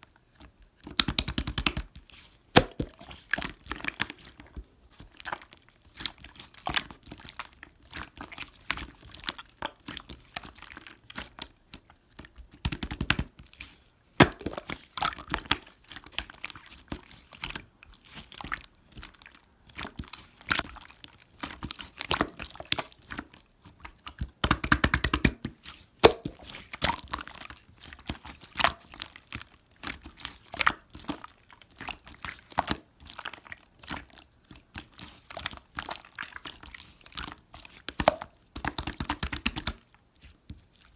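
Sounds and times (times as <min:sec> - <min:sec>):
slime squishing with crackles and pops: 0:00.0 - 0:40.9.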